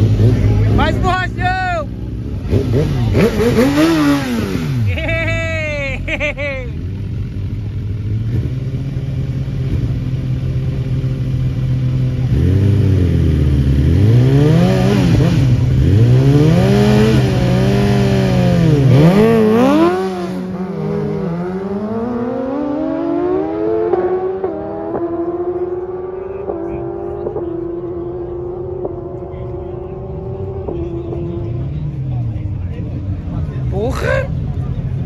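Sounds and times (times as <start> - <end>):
motorcycles accelerating away: 0.0 - 1.0, 2.0 - 35.0
motorcycle engines revving: 0.0 - 35.0.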